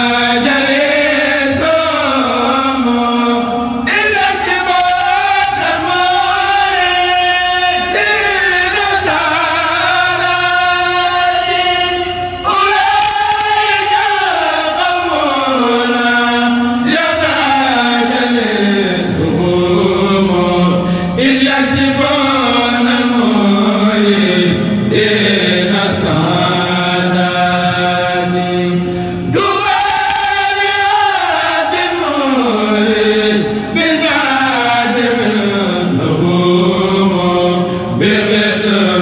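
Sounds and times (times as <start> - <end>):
male choir chanting: 0.0 - 39.0.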